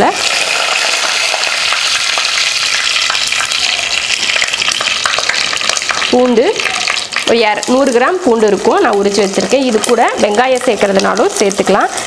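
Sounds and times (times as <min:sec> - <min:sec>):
curry leaves sizzling in hot oil: 0:00.0 - 0:12.0.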